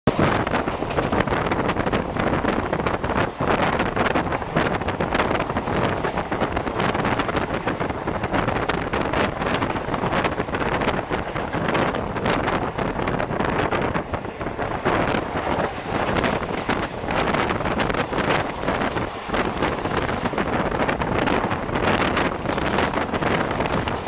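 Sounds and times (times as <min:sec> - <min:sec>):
train wheels rushing on rail: 0:00.1 - 0:24.0
wind buffeting microphone: 0:00.1 - 0:24.0.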